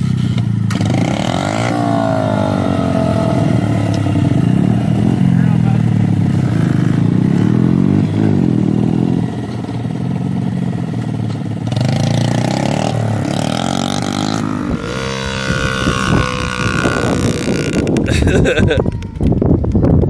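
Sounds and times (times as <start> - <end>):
small motorcycle engines revving: 0.0 - 18.8.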